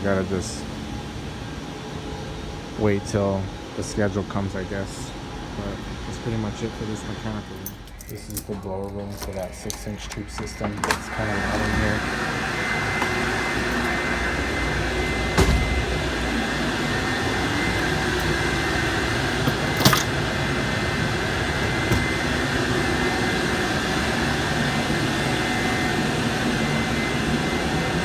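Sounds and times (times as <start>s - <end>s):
blower rushing with high whine: 0.0s - 28.0s.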